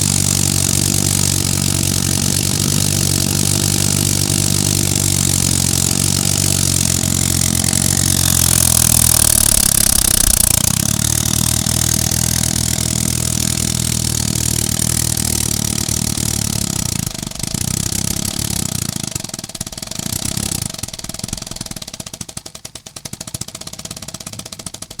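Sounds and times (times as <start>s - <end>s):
air piston engine running: 0.0s - 22.1s.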